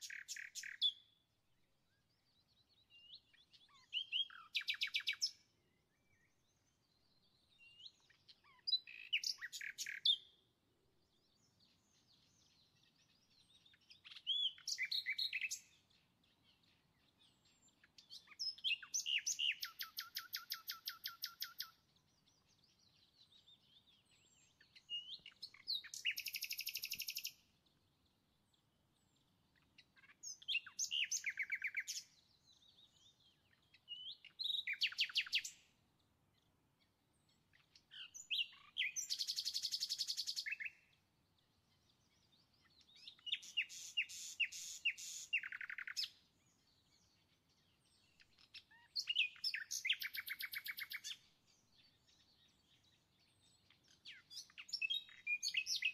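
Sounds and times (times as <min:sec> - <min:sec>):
songbird singing with trills: 0:00.0 - 0:55.9.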